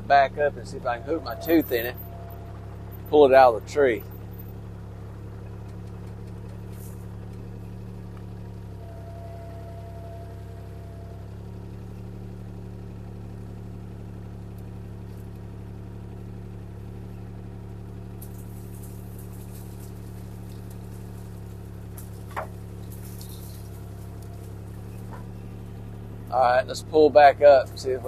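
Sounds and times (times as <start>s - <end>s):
excavator diesel engine humming: 0.0s - 28.0s.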